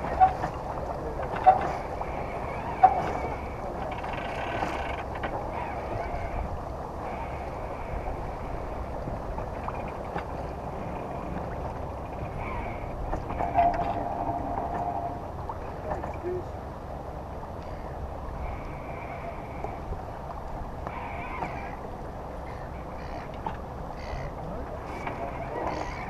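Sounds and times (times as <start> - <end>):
water wash: 0.0 - 22.4
wind: 0.0 - 26.0.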